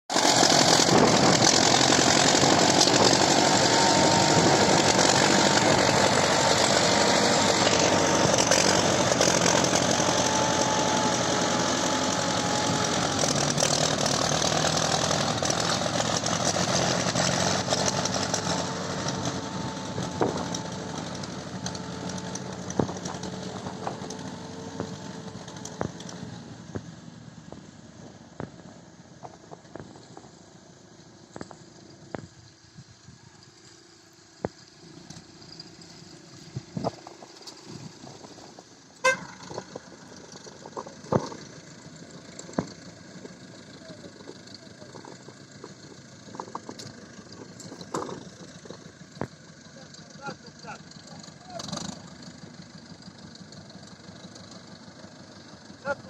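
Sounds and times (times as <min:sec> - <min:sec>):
tractor engine running: 0:00.1 - 0:56.0.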